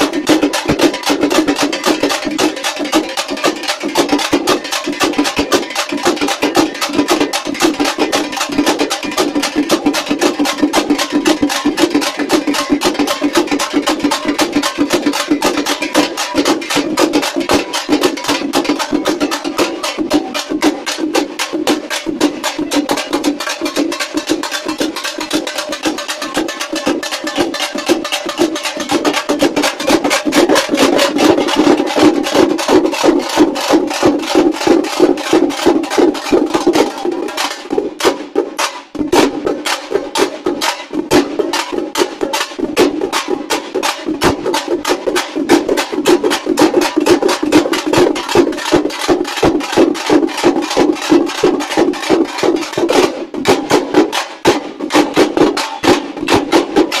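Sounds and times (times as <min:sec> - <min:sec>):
drums played in fast rhythm: 0:00.0 - 0:57.0.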